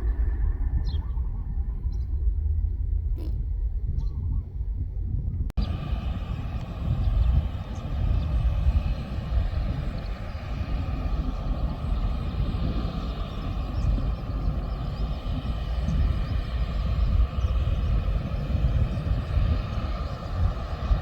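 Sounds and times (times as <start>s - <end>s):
airliner engines rumbling: 0.0s - 21.0s
faint high engine whine: 0.0s - 21.0s.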